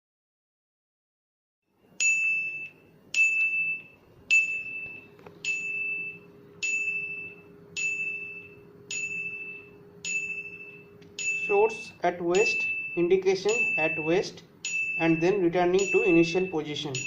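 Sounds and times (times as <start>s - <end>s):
high-pitched electronic ding: 2.1s - 17.0s.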